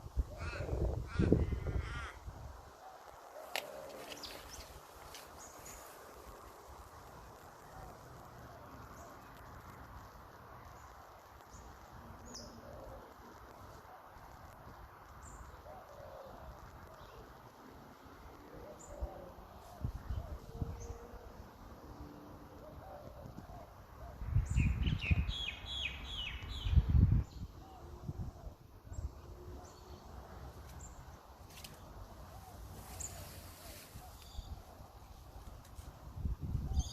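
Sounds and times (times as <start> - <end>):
faint outdoor background noise: 0.0 - 36.9.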